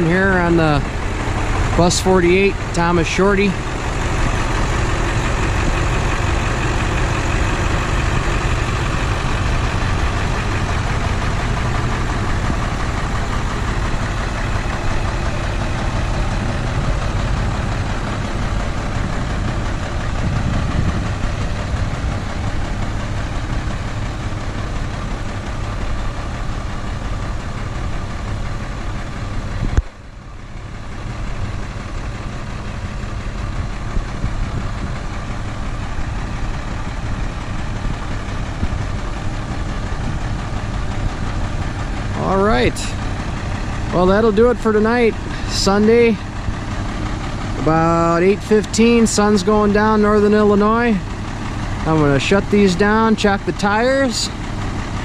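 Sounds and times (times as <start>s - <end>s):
bus engines idling: 0.0s - 55.0s.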